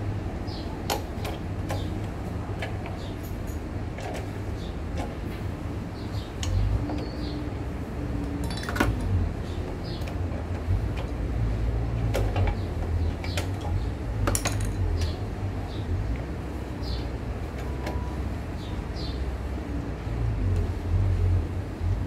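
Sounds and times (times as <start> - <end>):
steady low rumble: 0.0 - 0.8, 1.4 - 22.0.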